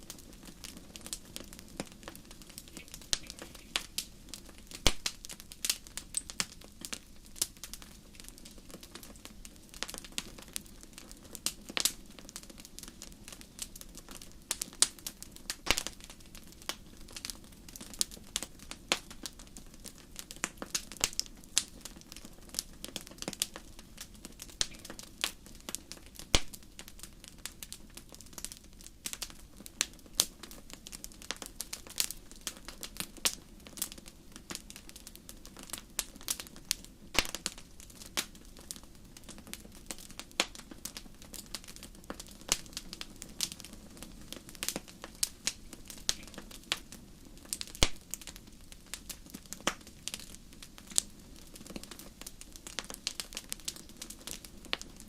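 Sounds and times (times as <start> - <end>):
logs crackling and popping: 0.0 - 55.0
soft hiss of flames: 0.0 - 55.0.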